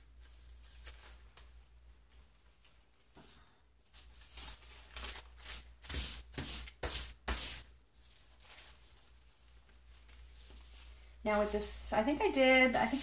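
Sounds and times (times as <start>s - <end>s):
paper sheets rustling: 0.1s - 11.8s.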